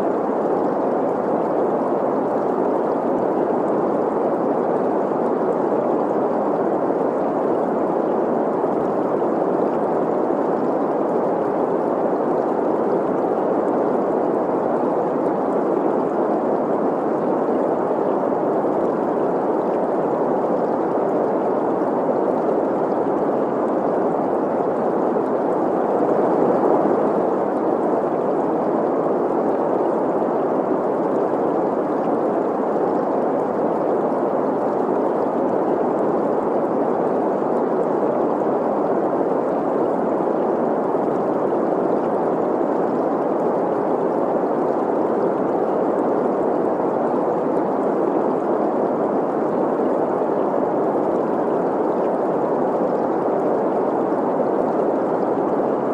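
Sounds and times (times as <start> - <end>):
stream running and gurgling: 0.0 - 55.9.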